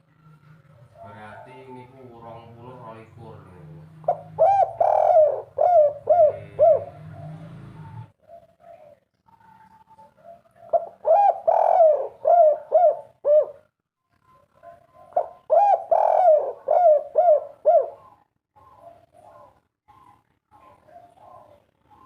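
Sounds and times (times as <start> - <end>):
dove cooing: 0.0 - 3.0, 3.8 - 22.0.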